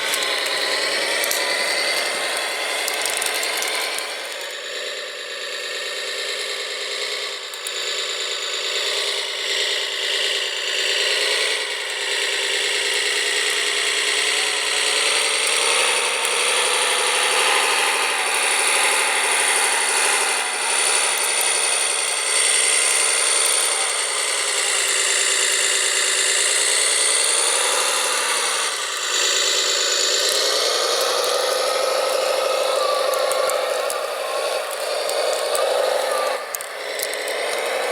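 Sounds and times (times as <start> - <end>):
small electric motors whining: 0.0 - 37.9.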